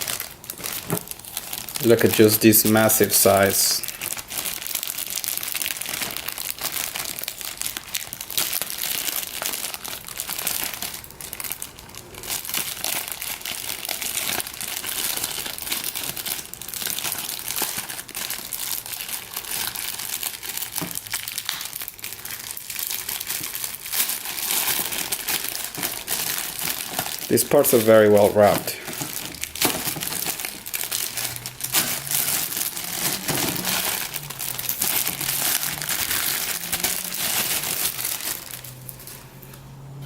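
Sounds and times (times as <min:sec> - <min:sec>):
plastic tearing: 0:00.0 - 0:39.6
plastic packaging crinkling: 0:00.0 - 0:40.0.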